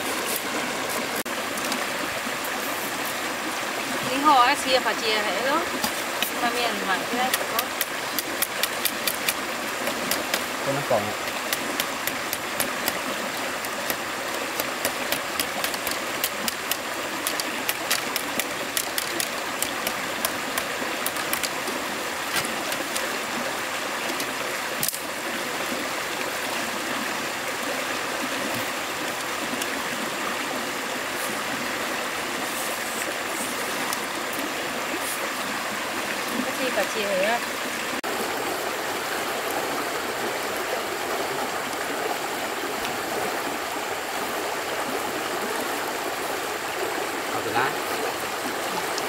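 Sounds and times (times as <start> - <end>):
flowing water: 0.0 - 49.0.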